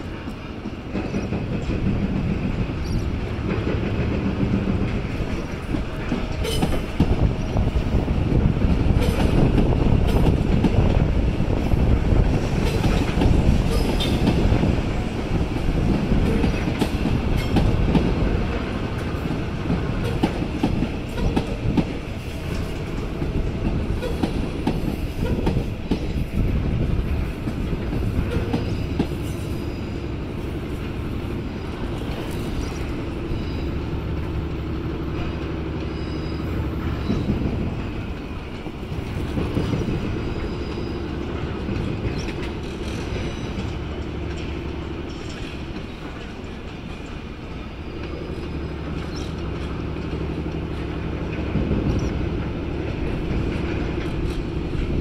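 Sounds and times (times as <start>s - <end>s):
train rumbling: 0.0s - 55.0s
wheels clacking over rail joints: 0.0s - 55.0s.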